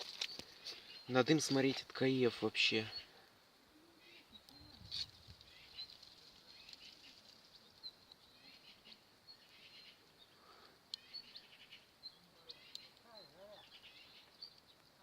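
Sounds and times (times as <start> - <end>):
small fire crackling: 0.0 - 15.0.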